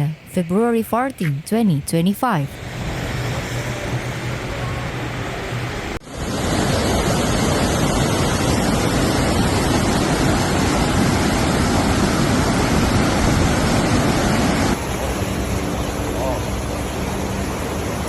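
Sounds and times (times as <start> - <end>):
floodwater rushing: 2.6 - 18.0.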